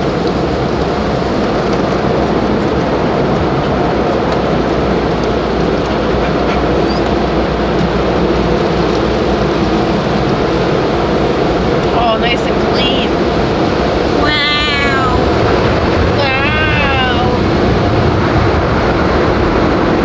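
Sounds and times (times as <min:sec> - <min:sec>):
car wash water jets and machinery: 0:00.0 - 0:20.0.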